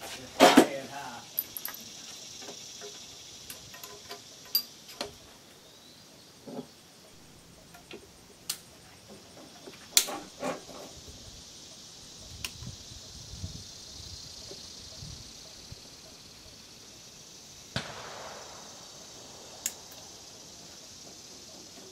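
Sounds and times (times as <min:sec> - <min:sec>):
high insect chirr: 0:00.0 - 0:21.9.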